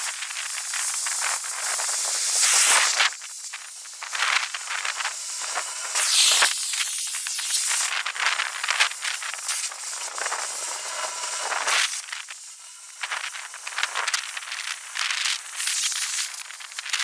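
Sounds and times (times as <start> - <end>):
cutting torch hissing and crackling: 0.0 - 17.0.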